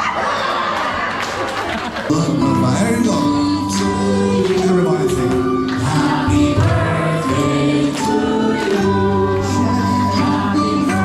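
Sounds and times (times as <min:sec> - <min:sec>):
karaoke music: 0:02.0 - 0:11.0
people singing long notes: 0:02.1 - 0:11.0.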